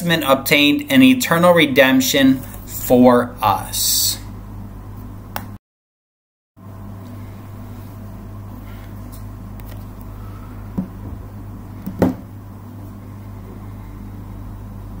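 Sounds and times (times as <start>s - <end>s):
low room hum: 0.0s - 5.6s, 6.6s - 15.0s.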